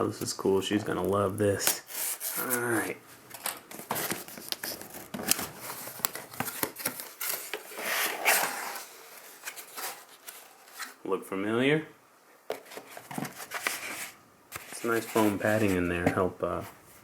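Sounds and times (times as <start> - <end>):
packaging rustling and scraping: 1.4 - 11.0, 12.5 - 17.0.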